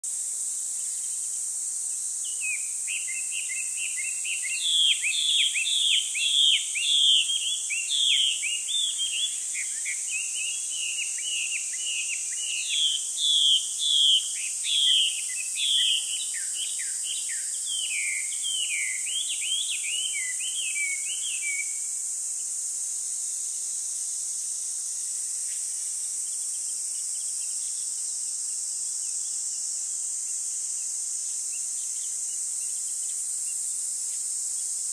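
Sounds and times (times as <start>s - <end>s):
crickets droning: 0.1s - 34.9s
songbird chirping: 0.7s - 22.5s, 25.2s - 34.8s.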